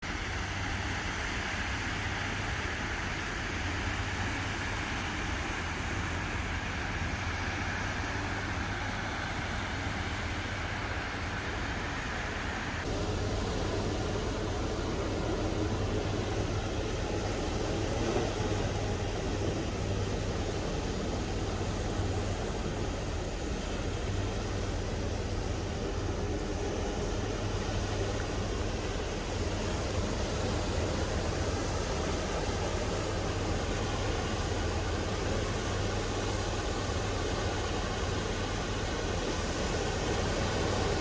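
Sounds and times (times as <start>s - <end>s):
sea waves washing onto sand: 0.0s - 41.0s
wind rumbling on microphone: 0.0s - 41.0s.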